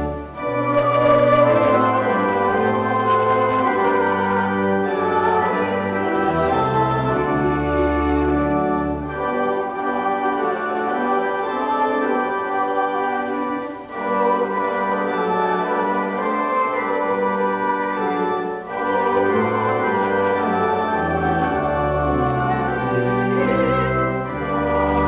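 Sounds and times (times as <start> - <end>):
church organ chords: 0.0 - 25.0.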